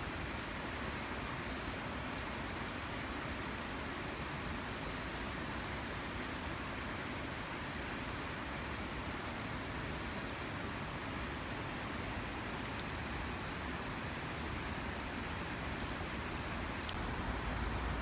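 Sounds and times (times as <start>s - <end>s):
campfire crackling: 0.1s - 18.0s.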